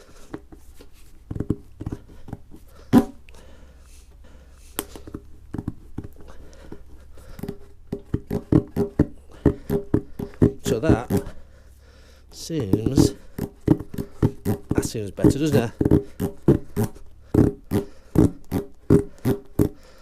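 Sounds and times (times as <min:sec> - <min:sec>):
tool knocking and scraping in tyre: 0:00.0 - 0:03.3, 0:04.7 - 0:11.5, 0:12.3 - 0:20.0.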